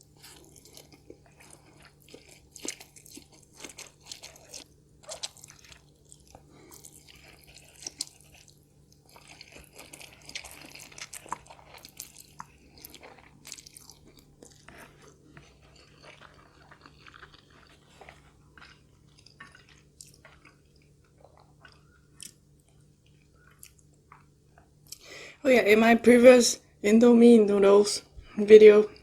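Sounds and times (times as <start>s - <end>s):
food crunching: 0.0s - 25.0s
person chewing food: 0.0s - 25.1s.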